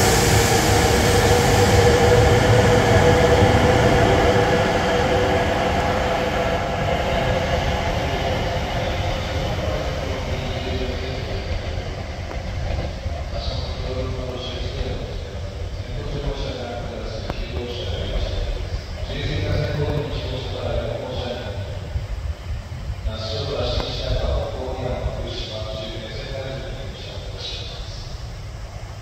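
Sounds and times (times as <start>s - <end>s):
train rumble: 0.0s - 29.0s
train whine: 0.0s - 29.0s.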